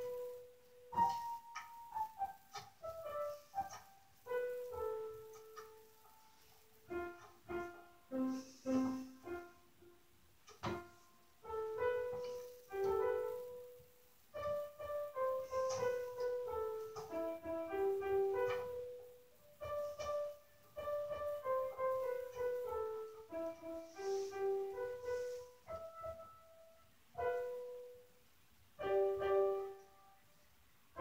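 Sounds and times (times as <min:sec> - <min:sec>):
slow piano music: 0:00.0 - 0:31.0.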